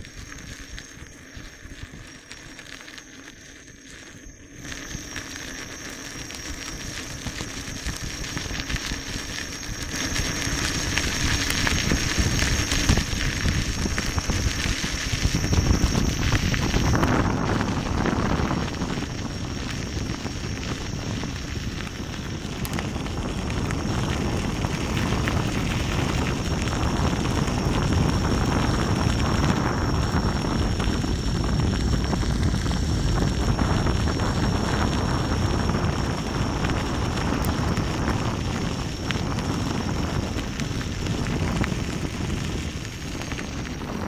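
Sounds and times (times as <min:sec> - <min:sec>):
faint high whine: 0:00.0 - 0:44.0
tyre rumbling on path: 0:05.0 - 0:44.0
wind buffeting microphone: 0:06.8 - 0:44.0.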